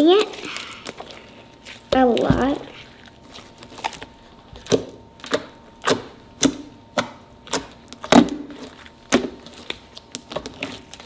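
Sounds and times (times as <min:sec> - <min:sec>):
slime kneaded by hand: 0:00.0 - 0:11.0.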